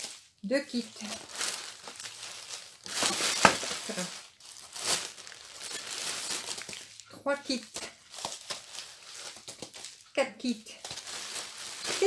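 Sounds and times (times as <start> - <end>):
plastic packets crinkling: 0.0 - 10.1, 10.7 - 12.0.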